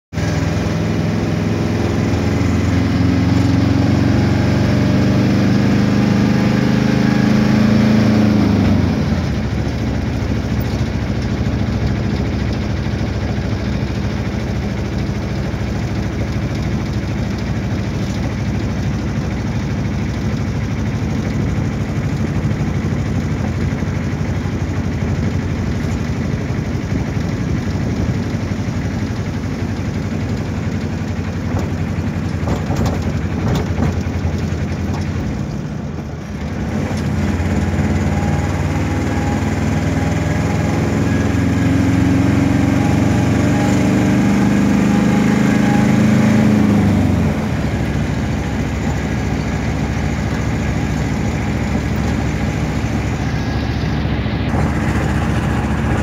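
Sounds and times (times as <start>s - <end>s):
road noise: 0.1s - 56.0s
vehicle engine: 0.1s - 56.0s.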